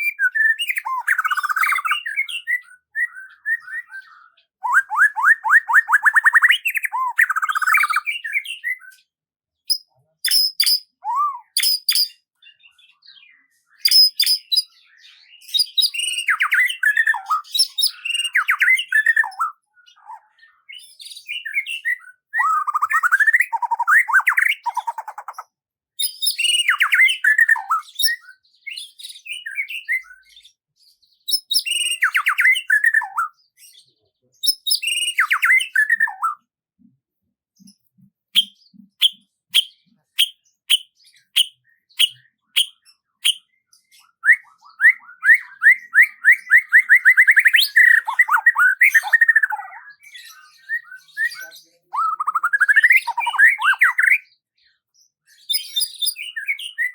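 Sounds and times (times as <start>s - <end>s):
songbird singing: 0.0s - 30.6s, 31.2s - 37.0s, 37.6s - 54.5s.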